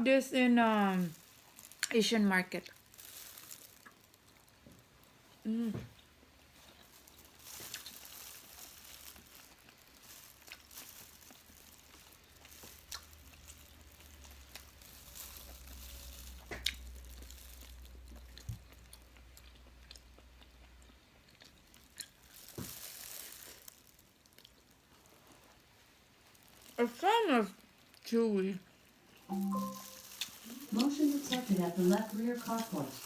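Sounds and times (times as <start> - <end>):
close chewing: 1.0 - 26.9, 29.1 - 33.0.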